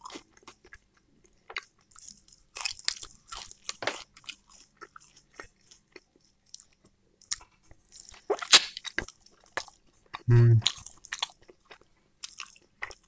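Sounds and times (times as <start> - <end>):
person chewing and crunching food: 0.0 - 13.0.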